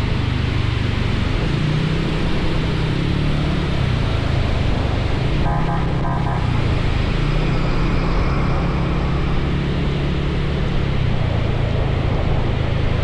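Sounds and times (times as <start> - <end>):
motorcycle engine running: 0.0 - 13.0
wind and rain noise: 0.0 - 13.0.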